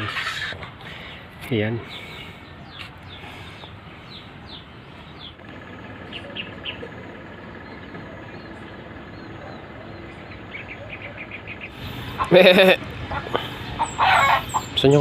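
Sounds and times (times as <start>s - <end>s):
outdoor background: 0.0s - 15.0s
small birds chirping: 0.0s - 15.0s.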